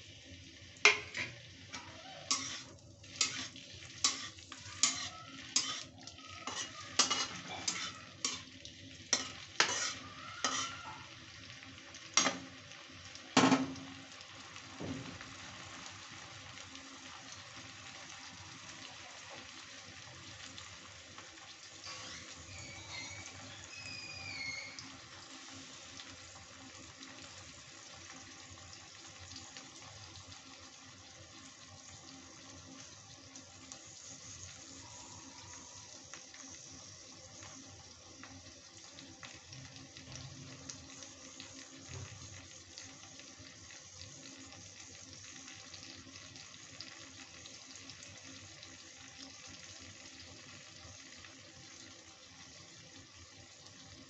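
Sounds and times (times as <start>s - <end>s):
cheese frying in oil: 0.0s - 54.0s.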